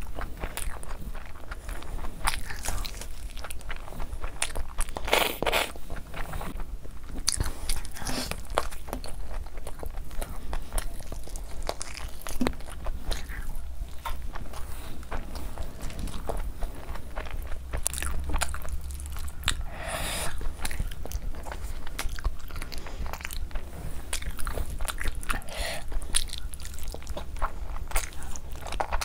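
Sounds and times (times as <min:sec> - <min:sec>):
wet chewing and lip-smacking: 0:00.0 - 0:29.0.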